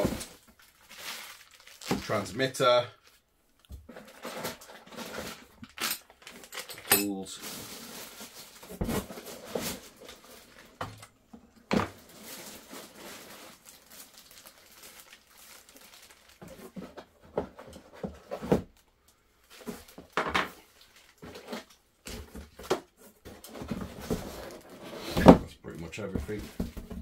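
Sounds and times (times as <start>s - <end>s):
plastic packaging rustling: 0.0s - 11.2s, 11.8s - 27.0s.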